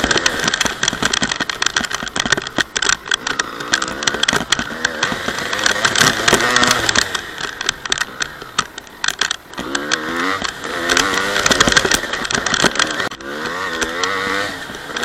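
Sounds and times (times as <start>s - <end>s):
crackle of knocks and rattles: 0.0s - 15.0s
two-stroke engine revving: 0.0s - 15.0s.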